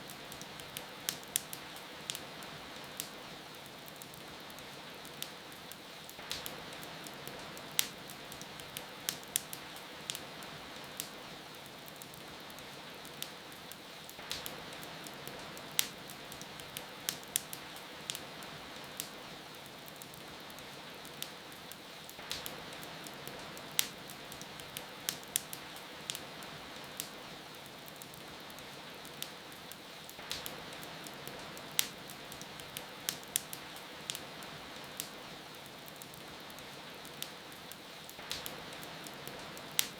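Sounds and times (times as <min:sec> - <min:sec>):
rain hiss: 0:00.0 - 0:39.9
wood fire crackling: 0:00.0 - 0:39.9.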